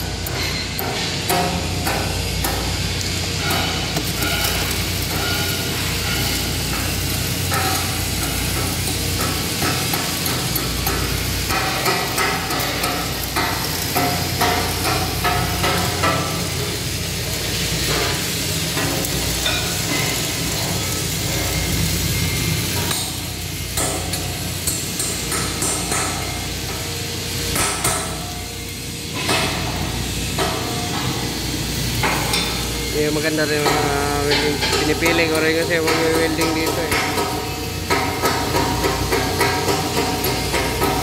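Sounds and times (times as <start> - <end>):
welding arc crackling: 0.0 - 41.0.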